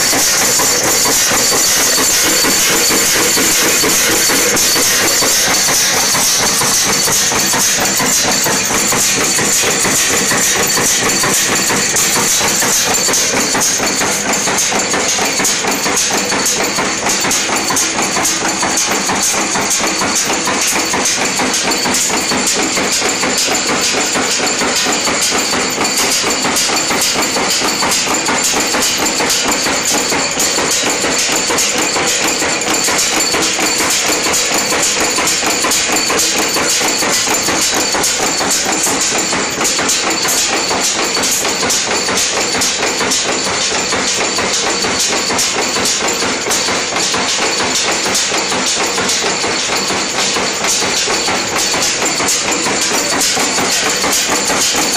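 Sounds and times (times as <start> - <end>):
nail making machine clattering: 0.0 - 54.9.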